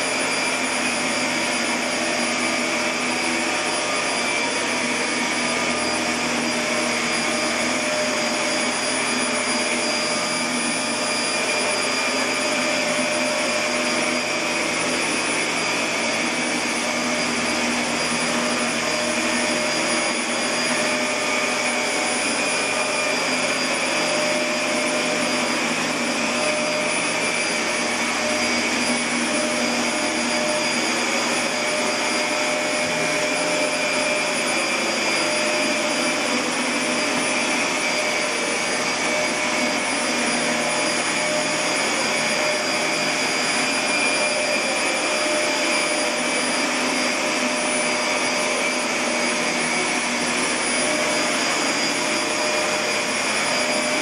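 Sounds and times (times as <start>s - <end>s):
motor or fan whirring: 0.0s - 54.0s.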